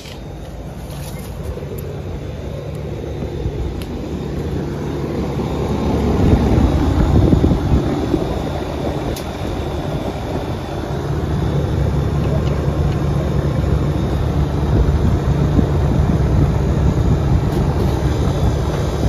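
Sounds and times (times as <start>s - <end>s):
air conditioner unit humming: 0.0s - 19.0s.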